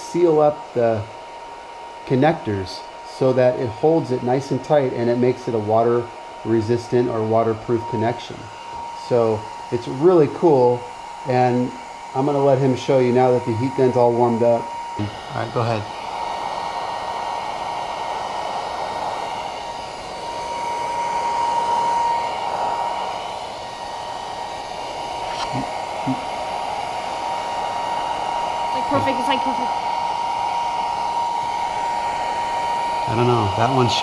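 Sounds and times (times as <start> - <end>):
heat gun blowing hot air: 0.0 - 34.0.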